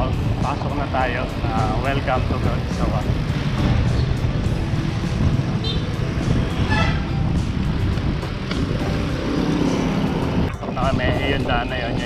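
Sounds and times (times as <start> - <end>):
road traffic: 0.0 - 12.0
wind rumble on microphone: 1.4 - 12.0.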